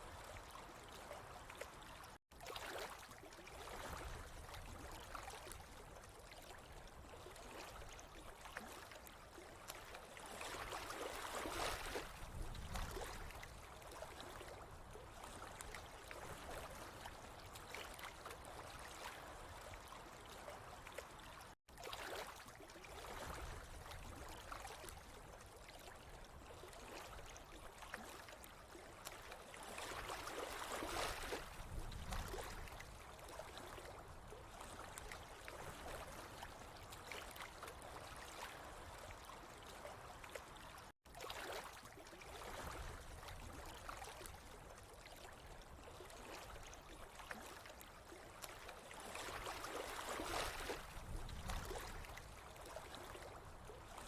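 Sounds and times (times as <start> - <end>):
faint trickling water: 0.0 - 54.0.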